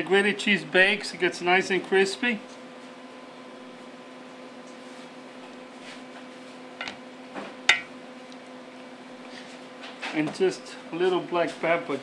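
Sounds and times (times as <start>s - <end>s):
electrical hum of kitchen equipment: 0.0s - 12.0s.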